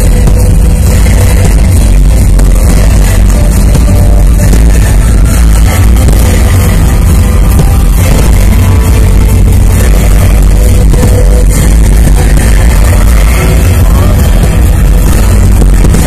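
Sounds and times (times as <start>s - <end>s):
fireworks bursting and crackling: 0.0s - 16.0s
music: 0.0s - 16.0s.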